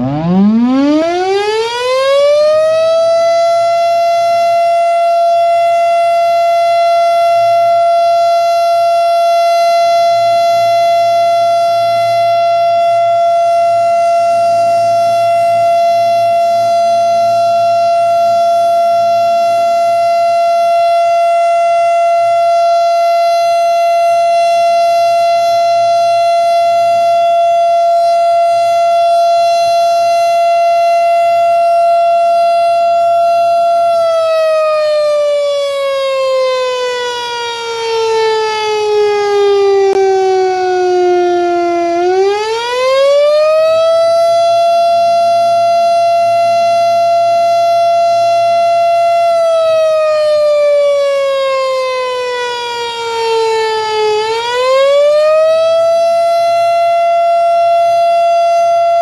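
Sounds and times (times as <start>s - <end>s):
siren steady tone: 0.0s - 59.0s.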